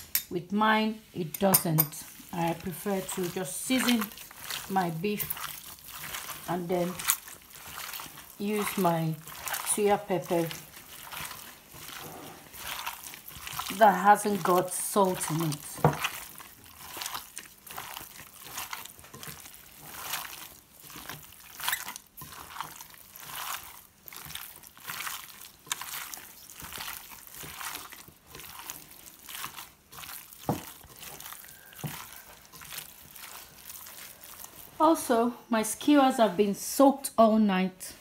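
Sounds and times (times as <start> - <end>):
wet meat squelching: 2.0 - 35.7.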